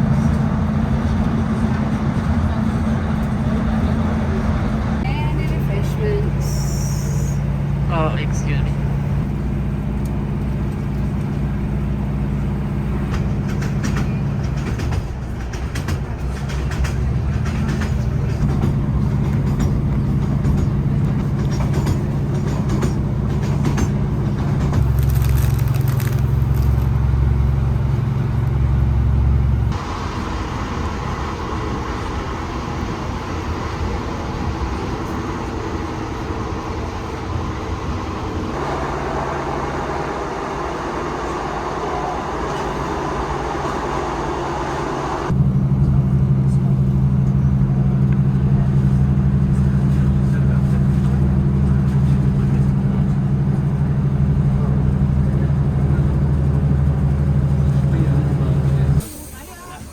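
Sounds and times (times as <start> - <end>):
diesel train engine drone: 0.0 - 59.9
train rattles and clicks: 0.0 - 59.9.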